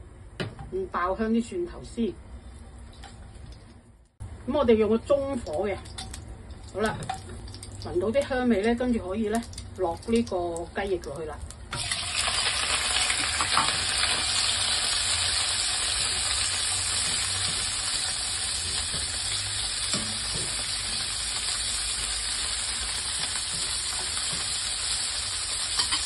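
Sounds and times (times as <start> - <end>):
chicken wings sizzling in oil: 5.1 - 26.0.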